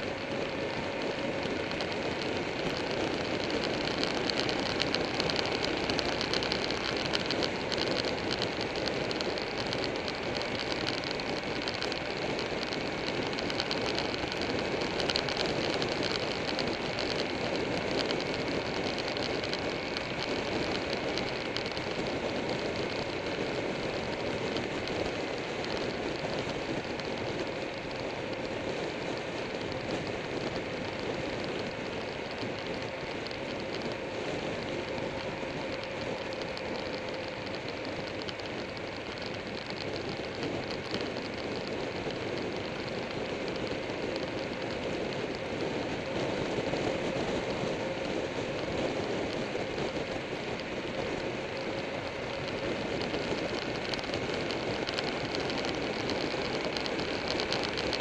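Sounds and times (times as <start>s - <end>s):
motorcycle engine and tyre noise: 0.0s - 58.0s.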